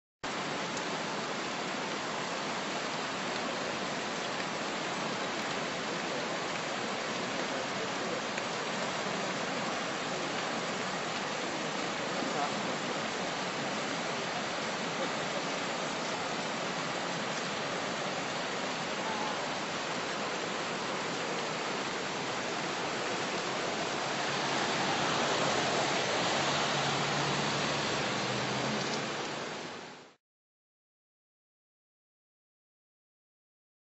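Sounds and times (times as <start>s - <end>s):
floodwater rushing: 0.3s - 30.2s.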